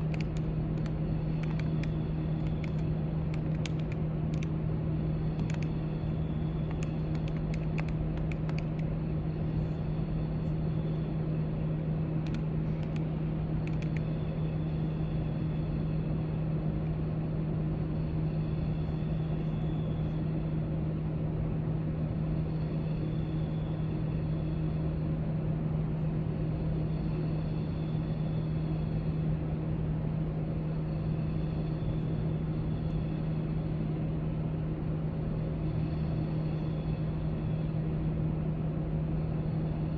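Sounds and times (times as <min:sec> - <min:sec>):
low room hum: 0:00.0 - 0:39.9.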